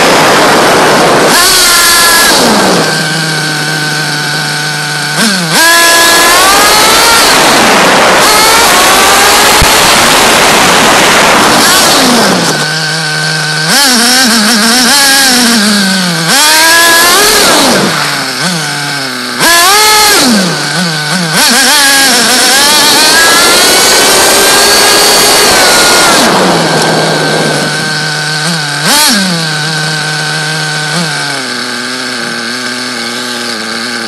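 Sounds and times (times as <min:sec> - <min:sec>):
small nitro engine revving: 0:00.0 - 0:34.0.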